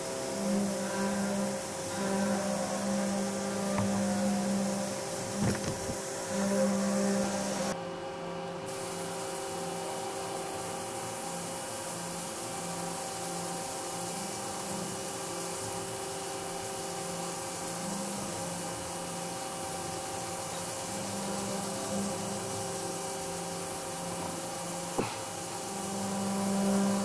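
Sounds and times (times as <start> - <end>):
machine hum and hiss: 0.0 - 27.0.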